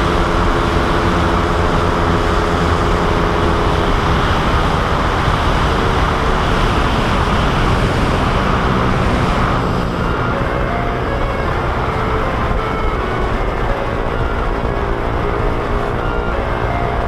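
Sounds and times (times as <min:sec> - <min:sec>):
motorcycle engine running: 0:00.0 - 0:17.0
road noise: 0:00.0 - 0:17.0
wind rush: 0:00.0 - 0:17.0.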